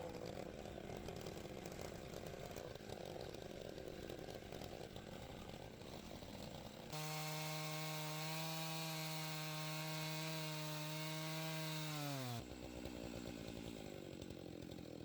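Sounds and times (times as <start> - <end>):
chainsaw cutting log: 0.0 - 15.0
chainsaw idling: 0.0 - 15.0.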